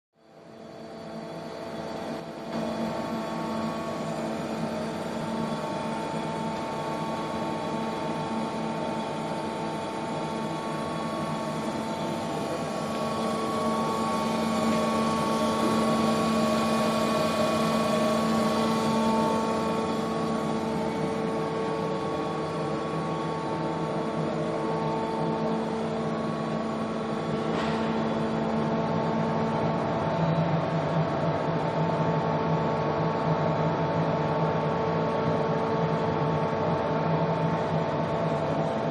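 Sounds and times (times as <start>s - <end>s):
machine hum with whining tones: 0.2s - 38.9s.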